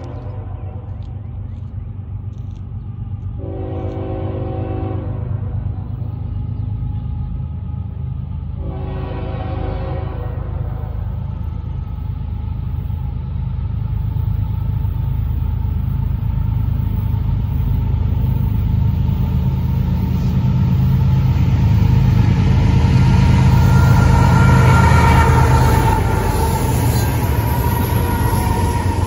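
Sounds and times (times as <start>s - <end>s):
locomotive engine rumble: 0.0s - 29.0s
train wheels on rails: 0.0s - 29.0s.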